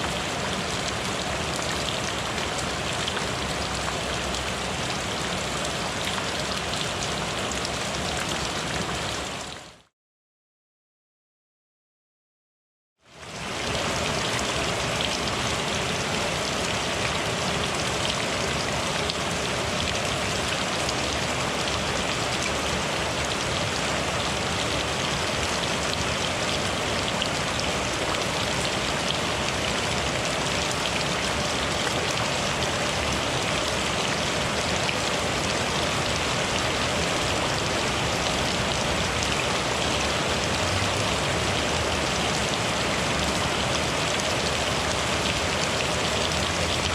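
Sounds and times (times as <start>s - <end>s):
steady rain falling: 0.0s - 9.9s, 13.1s - 46.9s.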